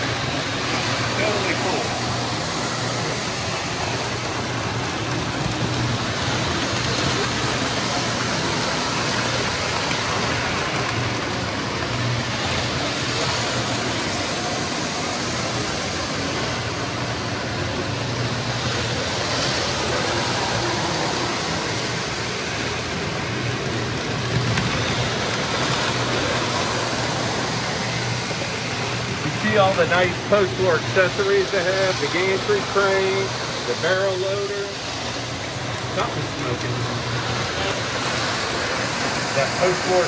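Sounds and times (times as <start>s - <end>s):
model train wheels rumbling: 0.0s - 40.0s.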